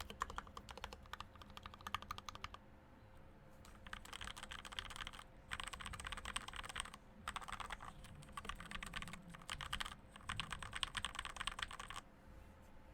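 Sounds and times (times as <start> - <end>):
mechanical keyboard typing: 0.0 - 2.6, 3.7 - 12.0.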